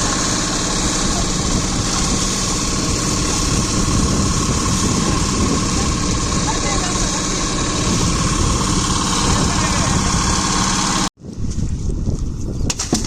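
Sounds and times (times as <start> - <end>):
engine humming with whine: 0.0 - 11.1.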